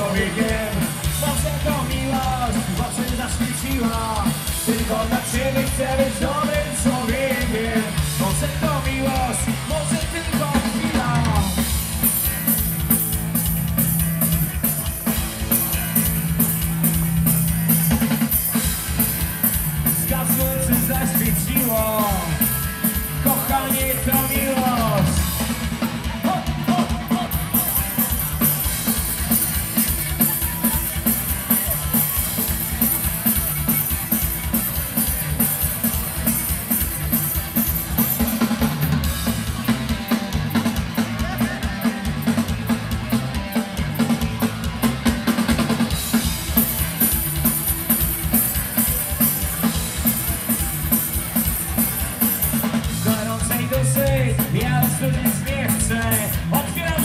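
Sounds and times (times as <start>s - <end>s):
fast drum kit: 0.0s - 57.0s
punk rock band playing: 0.0s - 57.0s.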